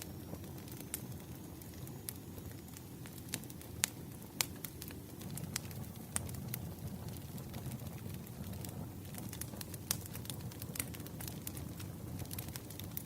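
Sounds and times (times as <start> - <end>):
logs crackling and popping: 0.0 - 13.0
wood fire rumbling: 0.0 - 13.0.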